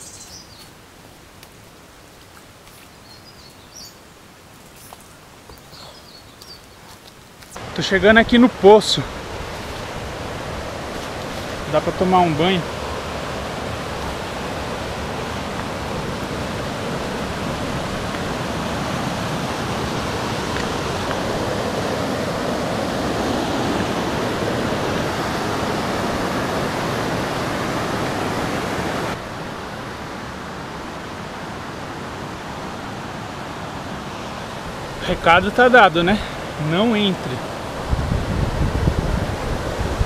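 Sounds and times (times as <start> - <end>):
river rushing over rapids: 7.2 - 40.0.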